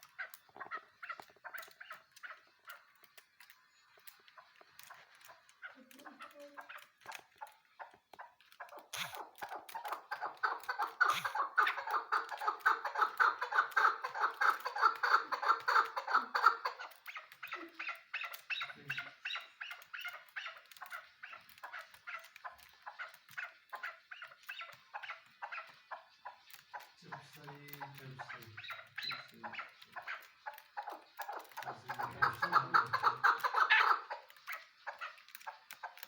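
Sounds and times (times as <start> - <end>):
partridge clucking calls: 0.0 - 36.0.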